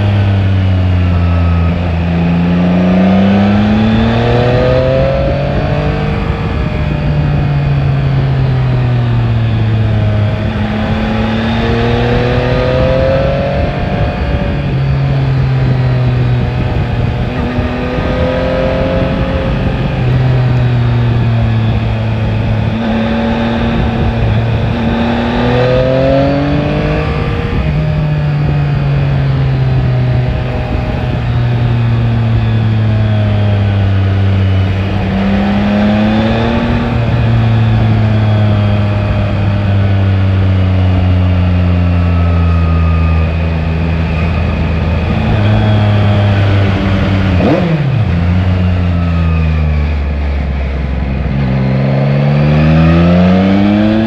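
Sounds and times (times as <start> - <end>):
motorcycle engine revving: 0.0 - 54.0
wind rush: 0.0 - 54.0.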